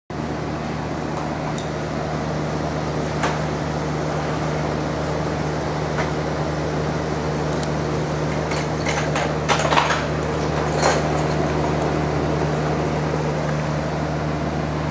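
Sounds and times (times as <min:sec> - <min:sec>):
air conditioner humming: 0:00.1 - 0:14.9.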